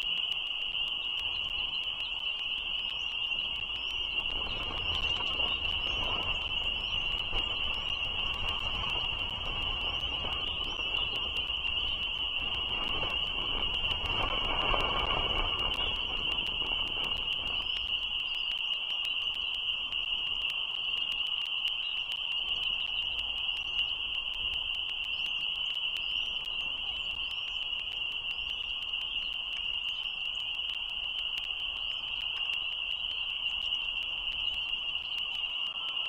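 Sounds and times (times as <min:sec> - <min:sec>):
frog chorus: 0:00.0 - 0:36.0.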